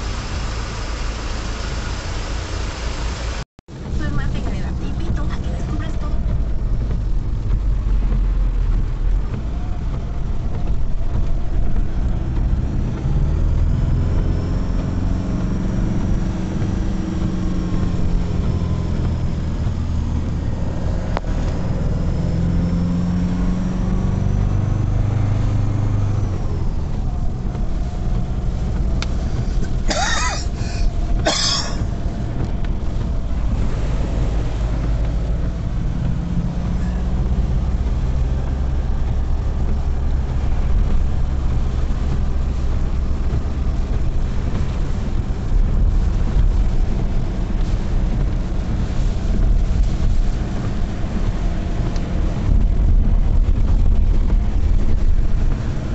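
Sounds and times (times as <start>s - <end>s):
car engine and tyre rumble: 0.0s - 55.9s.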